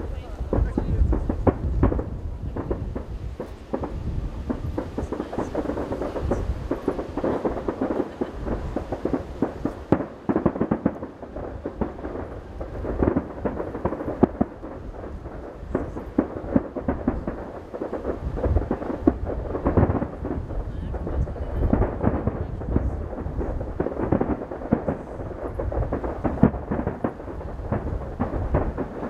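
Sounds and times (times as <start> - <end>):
distant fireworks bursting: 0.0 - 29.0.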